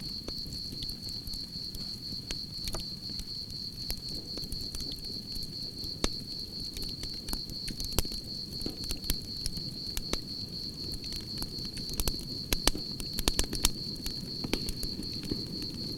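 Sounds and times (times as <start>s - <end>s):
campfire crackling and popping: 0.0s - 15.9s
crickets chirping: 0.0s - 15.9s.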